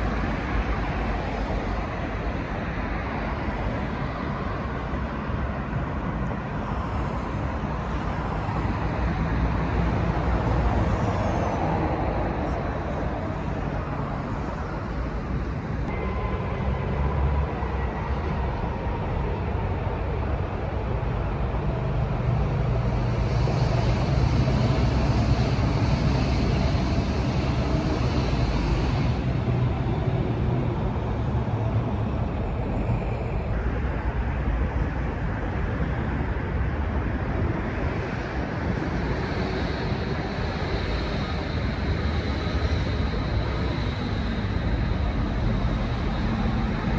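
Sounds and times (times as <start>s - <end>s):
city traffic noise: 0.0s - 46.9s
train wheels rumbling on rails: 0.0s - 46.9s.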